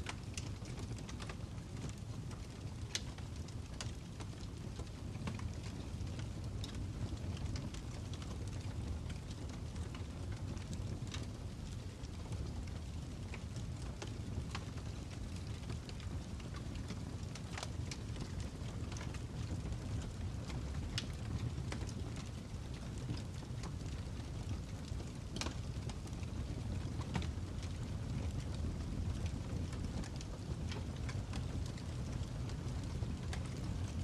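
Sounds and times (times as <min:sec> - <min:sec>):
fire crackling: 0:00.0 - 0:34.0.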